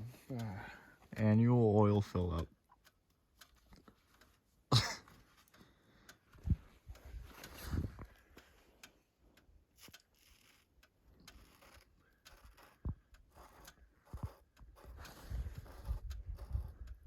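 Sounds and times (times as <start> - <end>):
faint clicks and light knocks: 2.2 - 17.0.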